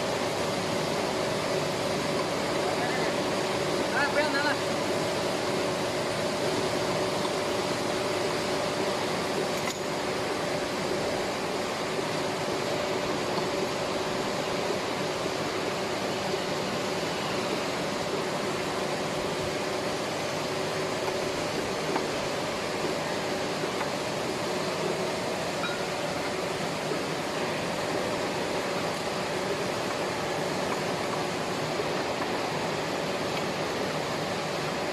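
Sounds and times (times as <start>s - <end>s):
machinery humming: 0.0s - 34.9s.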